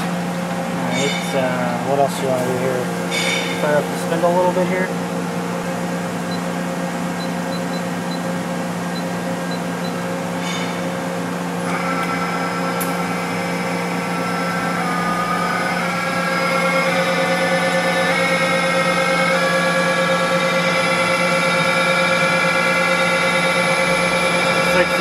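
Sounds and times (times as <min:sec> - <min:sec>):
machine humming: 0:00.0 - 0:25.0
spindle whine: 0:00.0 - 0:25.0.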